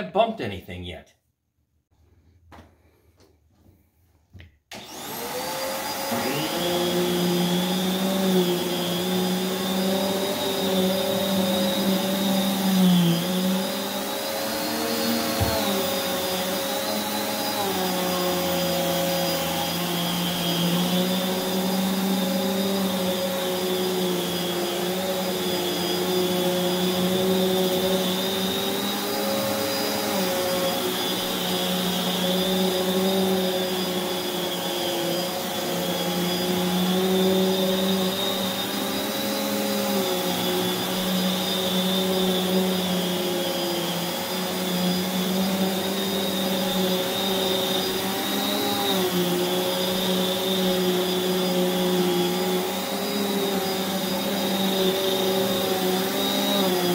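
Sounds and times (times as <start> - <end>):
vacuum cleaner motor running: 4.7 - 56.9.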